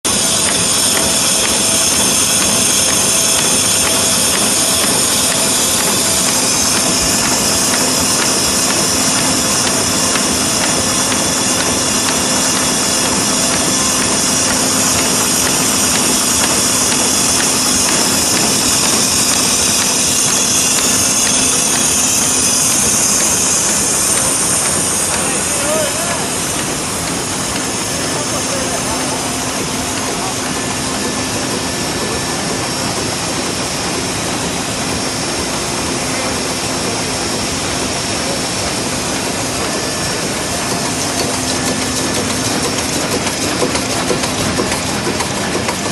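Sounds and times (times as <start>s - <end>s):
book-sewing machine running: 0.0s - 45.9s.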